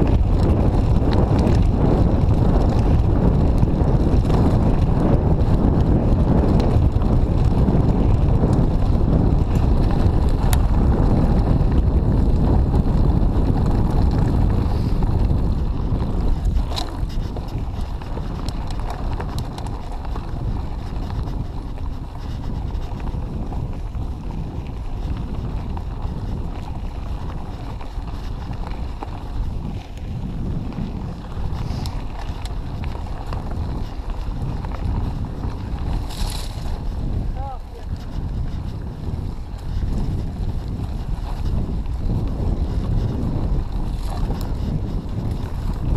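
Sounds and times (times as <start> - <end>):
bike clicking: 0.0 - 45.9
tyres on gravel track: 0.0 - 45.9
wind on microphone: 0.0 - 45.9.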